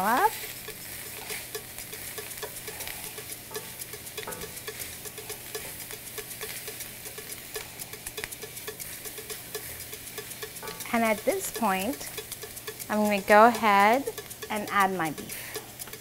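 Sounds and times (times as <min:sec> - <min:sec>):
food sizzling in a pan: 0:00.0 - 0:16.0
spoon tapping against a pan: 0:00.2 - 0:16.0.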